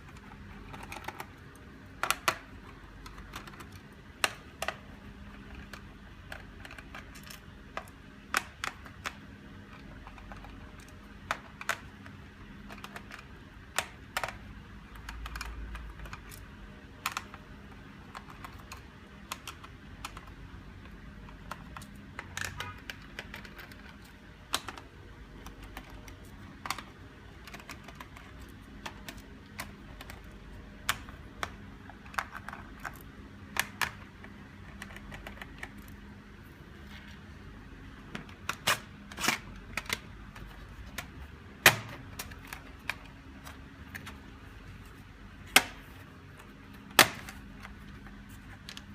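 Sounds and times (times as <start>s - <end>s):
clicks and taps on plastic casing: 0.1s - 36.0s, 45.5s - 48.9s.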